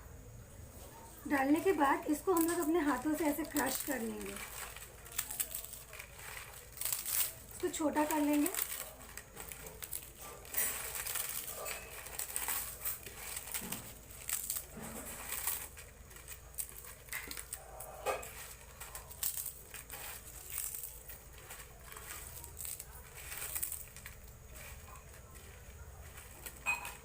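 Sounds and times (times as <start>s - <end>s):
potato chips crunching: 1.3s - 27.0s.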